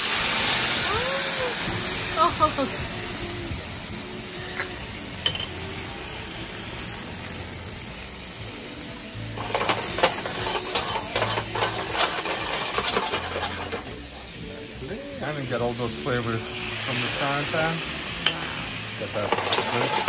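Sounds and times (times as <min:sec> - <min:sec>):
food sizzling in a pan: 0:00.0 - 0:20.0
hiss and crackling: 0:00.0 - 0:20.0
soft background music: 0:01.6 - 0:20.0.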